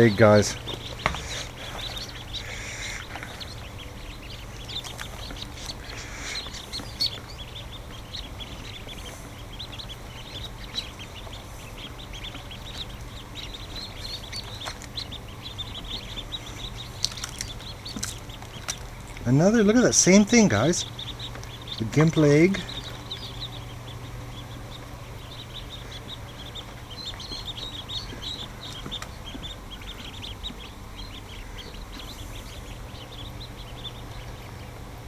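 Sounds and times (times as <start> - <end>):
ducklings peeping: 0.0 - 35.0
low hum: 0.0 - 35.0.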